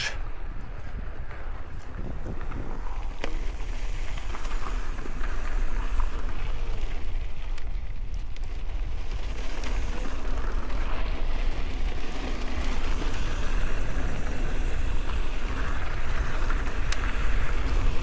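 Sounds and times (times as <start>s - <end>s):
bike clicks and rattles: 0.0s - 18.0s
bike tyres rolling on gravel: 0.0s - 18.0s
wind buffeting microphone: 0.0s - 18.0s.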